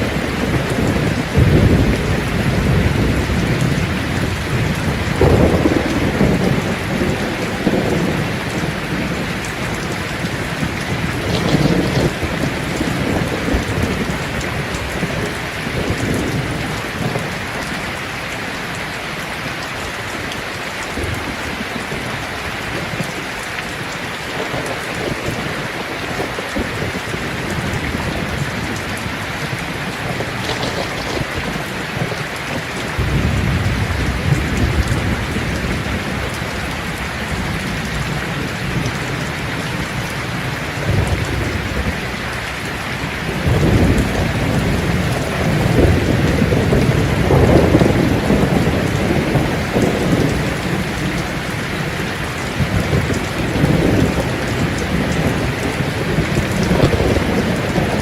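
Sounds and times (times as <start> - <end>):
heavy rain hissing: 0.0 - 58.0
rolling thunder rumbling: 0.0 - 58.0.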